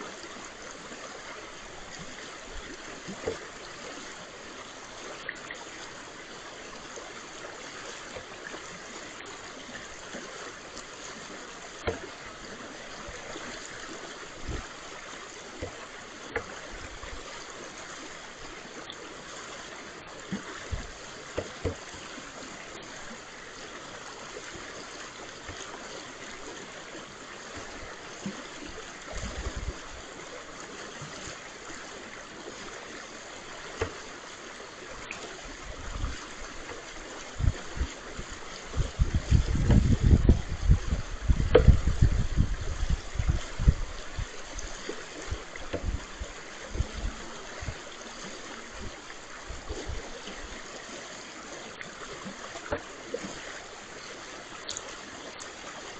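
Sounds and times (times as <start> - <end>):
brook water running: 0.0 - 55.9.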